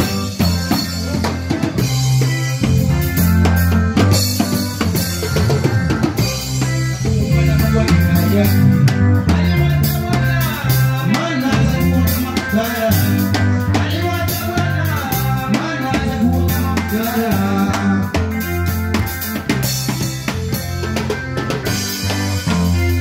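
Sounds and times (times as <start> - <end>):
bass line: 0.0 - 23.0
drum kit beat: 0.0 - 23.0
pitch-bending lead melody: 0.0 - 23.0.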